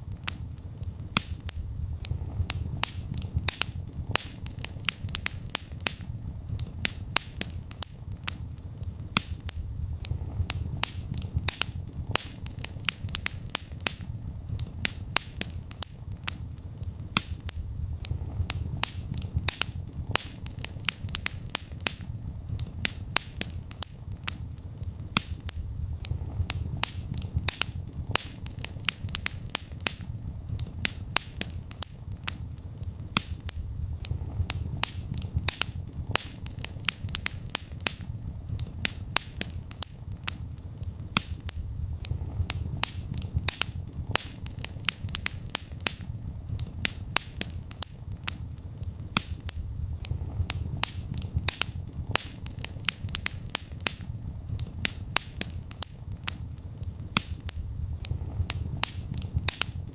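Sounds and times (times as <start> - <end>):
fire pops and snaps: 0.0 - 59.9
low rumble of flames: 0.0 - 59.9.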